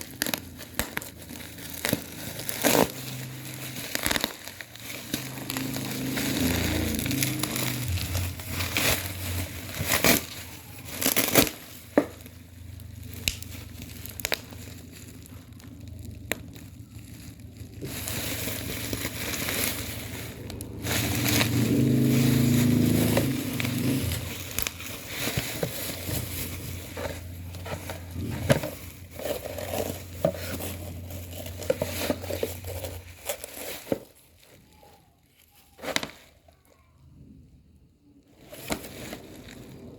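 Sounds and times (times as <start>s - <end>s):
crinkling plastic and paper: 0.0s - 37.4s, 38.1s - 39.9s.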